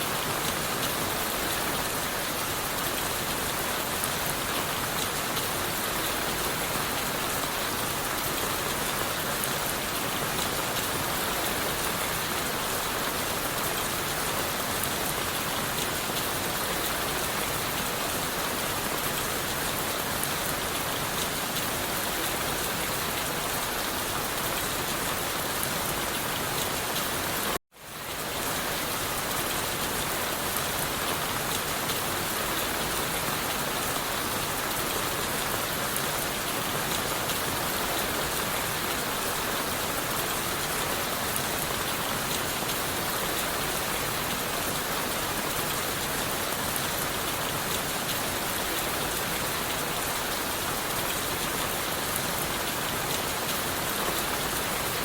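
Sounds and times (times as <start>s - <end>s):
heavy rain on leaves and wood: 0.0s - 55.0s.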